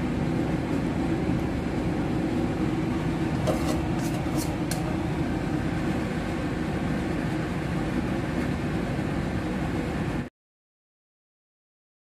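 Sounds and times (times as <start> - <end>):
low rumbling room noise: 0.0 - 10.3.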